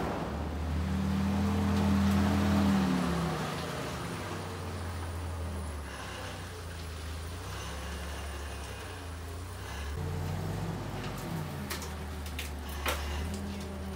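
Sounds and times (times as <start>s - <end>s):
forklift engine rumbling: 0.0s - 13.9s.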